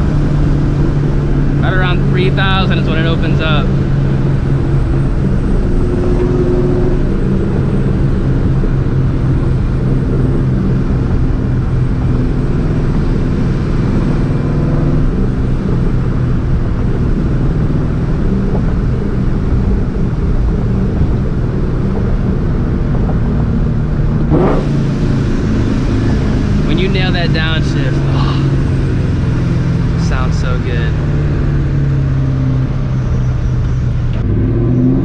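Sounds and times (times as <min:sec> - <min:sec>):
car engine exhaust cruising: 0:00.0 - 0:35.0.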